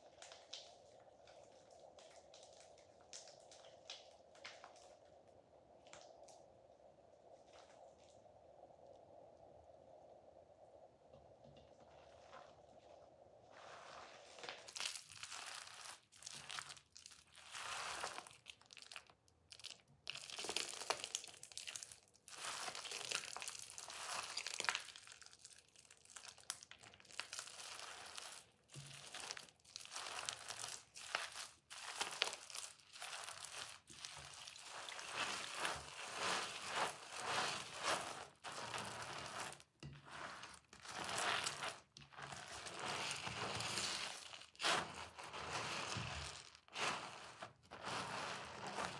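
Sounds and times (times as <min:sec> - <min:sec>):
wet soap crunching and squishing: 0:00.0 - 0:06.4, 0:11.7 - 0:48.9.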